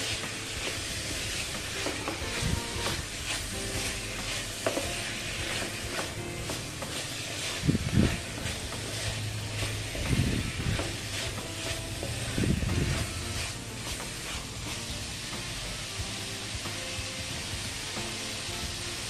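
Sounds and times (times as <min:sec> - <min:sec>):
wooden spatula scraping pan: 0:00.0 - 0:15.7
chicken sizzling in a hot pan: 0:00.0 - 0:19.0.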